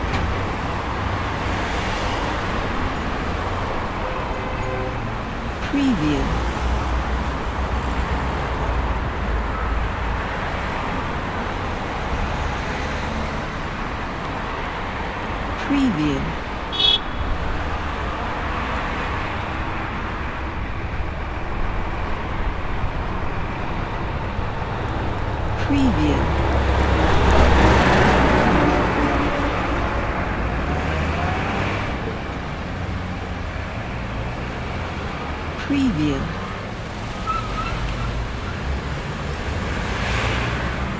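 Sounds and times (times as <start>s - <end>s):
car and vehicle engines: 0.0s - 40.9s
low traffic rumble: 0.0s - 40.9s.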